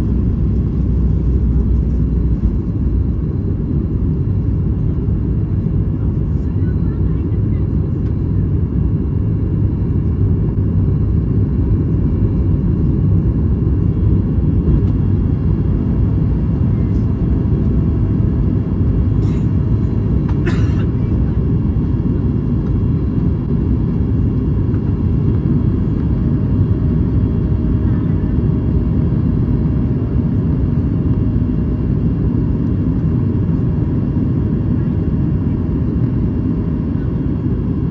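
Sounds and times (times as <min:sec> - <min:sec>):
aircraft cabin engine roar: 0:00.0 - 0:37.9.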